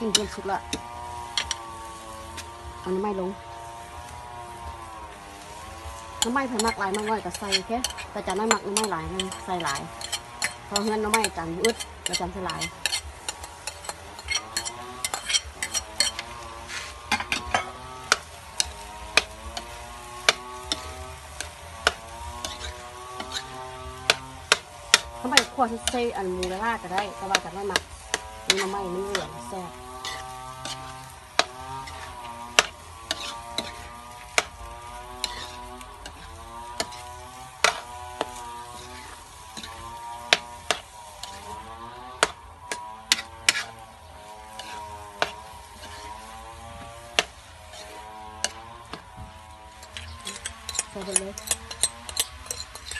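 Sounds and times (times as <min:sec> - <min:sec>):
metal spoon scraping a wok: 0:00.0 - 0:52.9
soft sizzle: 0:00.0 - 0:52.9.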